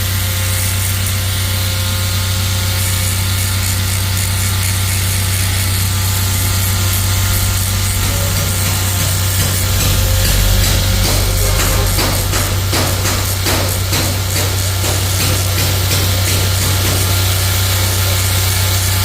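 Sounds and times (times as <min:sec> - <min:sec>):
power tool grinding: 0:00.0 - 0:19.0.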